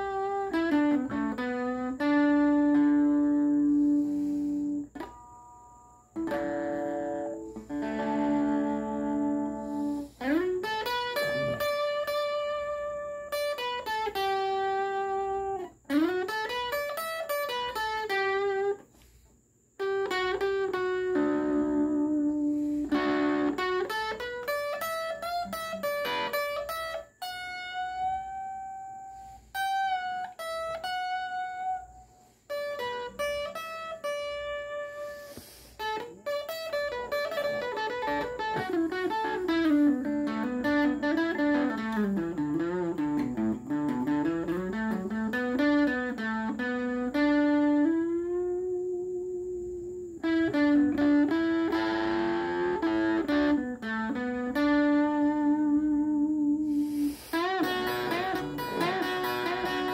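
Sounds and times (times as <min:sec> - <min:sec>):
solo guitar melody: 0:00.0 - 0:59.9.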